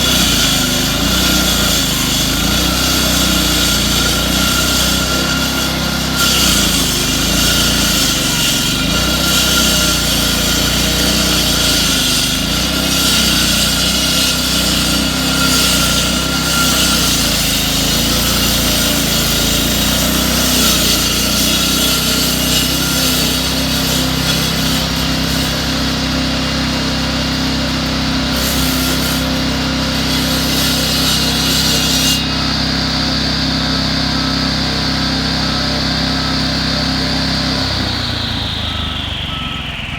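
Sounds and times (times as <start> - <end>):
harsh gritty cutting noise: 0.0 - 39.9
power saw engine running: 0.0 - 39.9.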